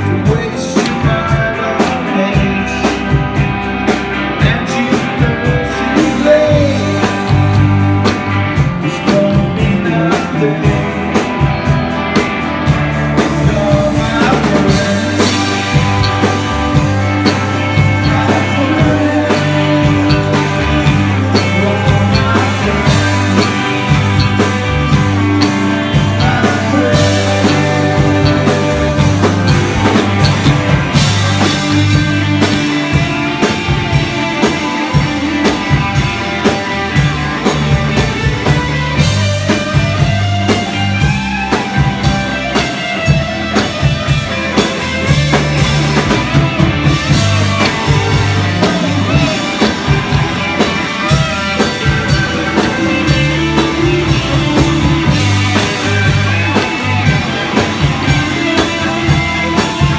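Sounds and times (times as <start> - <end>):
pitch-bending guitar line: 0.0 - 59.9
psychedelic rock band playing: 0.0 - 59.9
pulsing bass line: 0.0 - 59.9
steady drum beat: 0.0 - 59.9.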